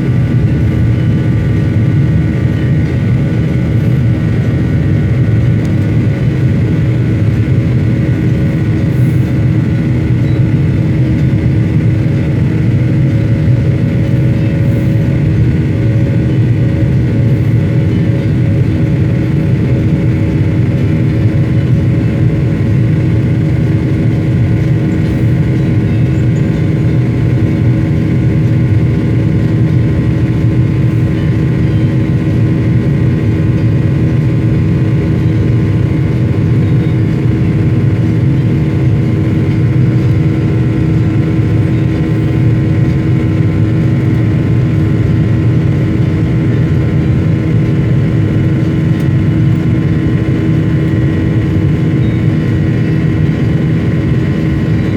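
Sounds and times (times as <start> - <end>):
airliner cabin engine hum: 0.0 - 54.9.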